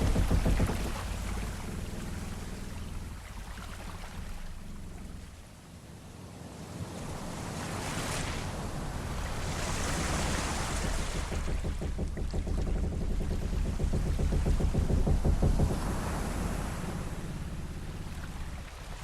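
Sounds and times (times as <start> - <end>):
low rumble: 0.0 - 5.5, 8.4 - 19.0
waves washing against a ship: 0.0 - 19.0.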